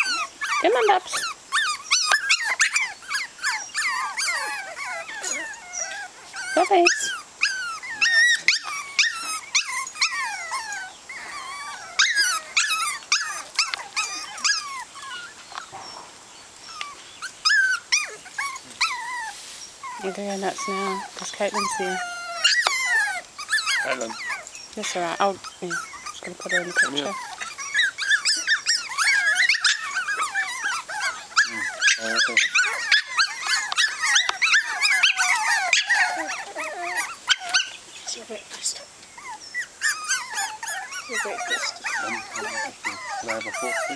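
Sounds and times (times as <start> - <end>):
puppies yelping: 0.0 - 43.9.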